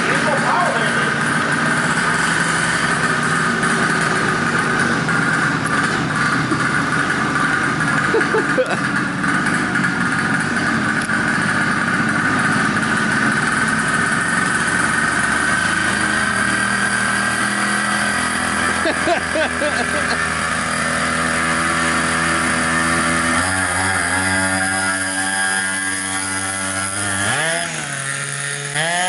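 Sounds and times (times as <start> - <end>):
two-stroke engine droning: 0.0 - 29.0.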